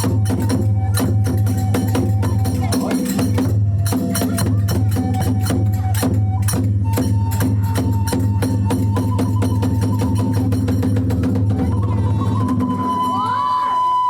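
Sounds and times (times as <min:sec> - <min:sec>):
hand cymbals clashing: 0:00.0 - 0:11.4
taiko drum: 0:00.0 - 0:13.6
bamboo flute long notes: 0:00.0 - 0:14.0.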